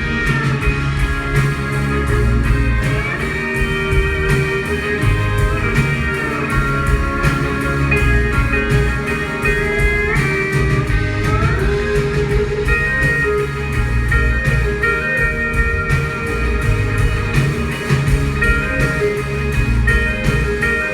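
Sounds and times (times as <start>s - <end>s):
guitars gliding in pitch: 0.0s - 20.9s
steady low bass: 0.0s - 20.9s.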